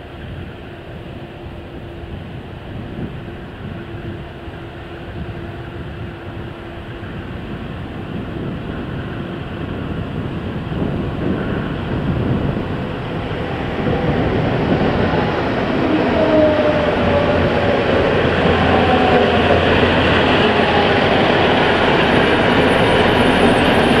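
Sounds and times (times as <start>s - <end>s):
locomotive engine drone: 0.0s - 24.0s
rail rumble: 0.0s - 24.0s.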